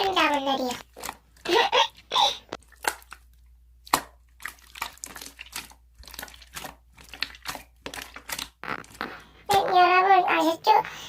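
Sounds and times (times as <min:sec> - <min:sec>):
slime squished by hand: 0:00.0 - 0:10.0.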